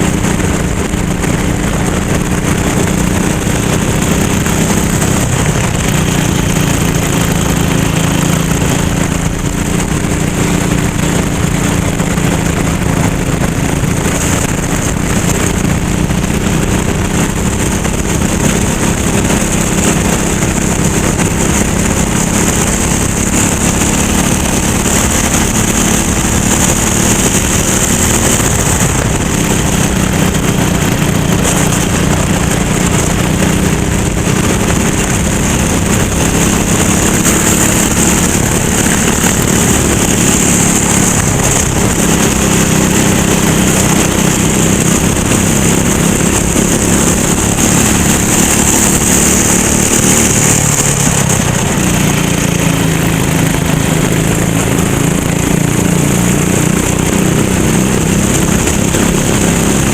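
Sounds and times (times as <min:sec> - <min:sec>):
kart engine running: 0:00.0 - 0:59.9.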